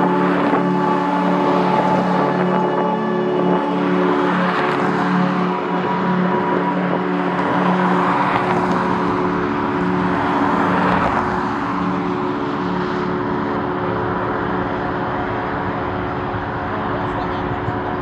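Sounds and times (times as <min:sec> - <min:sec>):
jet engines whining and roaring: 0:00.0 - 0:18.0.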